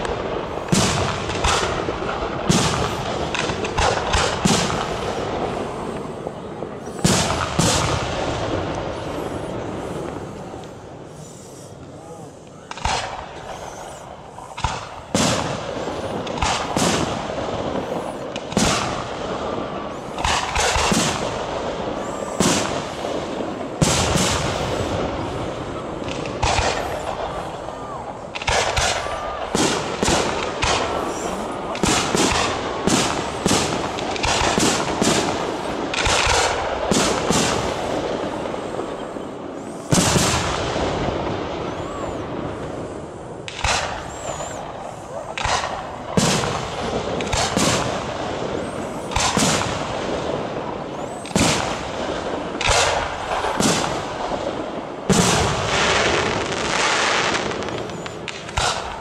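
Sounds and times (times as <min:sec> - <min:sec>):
firework crackle: 0:00.0 - 0:59.0
firework shells bursting: 0:00.0 - 0:59.0.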